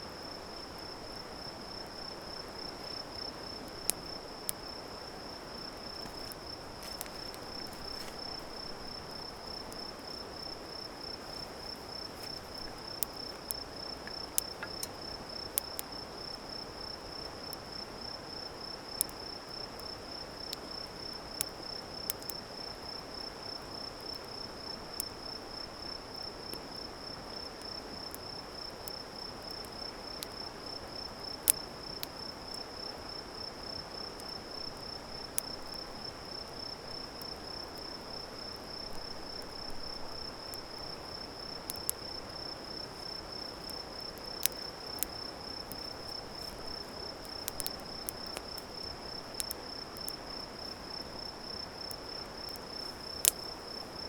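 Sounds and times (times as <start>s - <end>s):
campfire pops and crackles: 0.5s - 17.8s, 18.8s - 23.0s, 26.5s - 54.0s.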